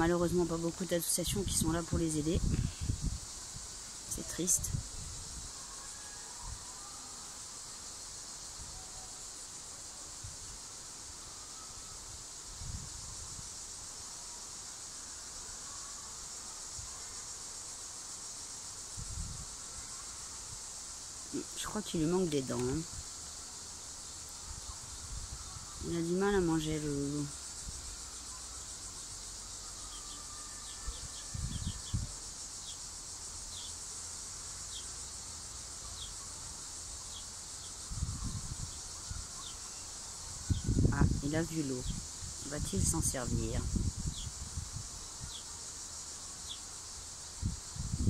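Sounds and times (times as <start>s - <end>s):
insects chirring: 0.0s - 48.0s.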